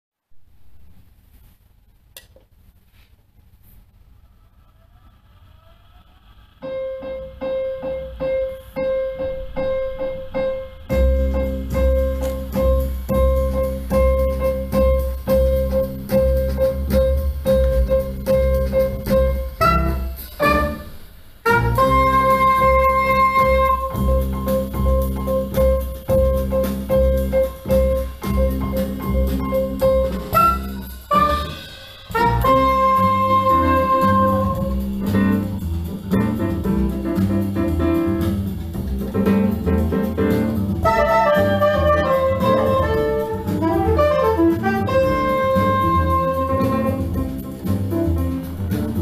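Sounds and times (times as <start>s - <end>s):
jazz music through loudspeakers: 6.7s - 49.0s
deep bass and drums: 9.3s - 49.0s.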